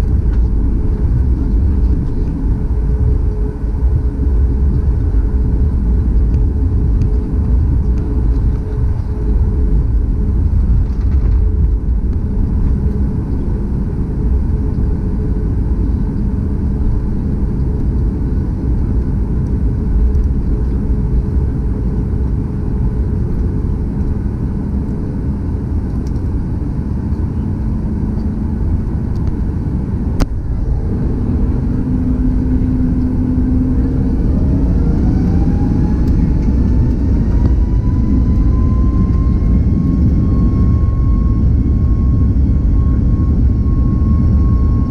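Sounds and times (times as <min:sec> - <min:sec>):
jet engines low rumble: 0:00.0 - 0:44.9
jet engines spooling up whine: 0:00.0 - 0:44.9.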